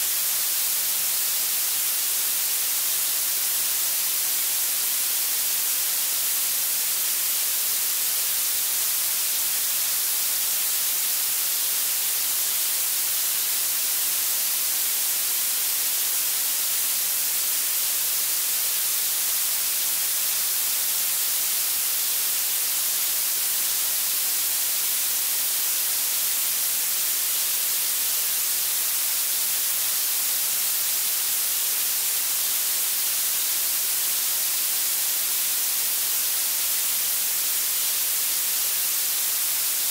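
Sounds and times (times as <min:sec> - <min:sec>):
high-pitched steady hiss: 0:00.0 - 0:39.9.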